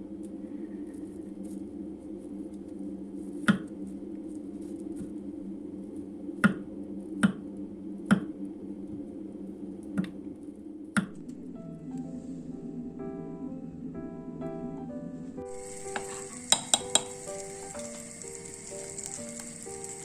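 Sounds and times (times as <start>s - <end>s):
steady low hum: 0.0s - 19.4s.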